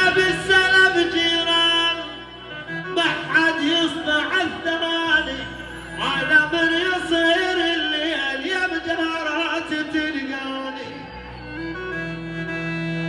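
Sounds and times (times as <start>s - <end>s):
man singing: 0.0s - 11.0s
sustained keyboard or organ tones: 0.0s - 13.0s.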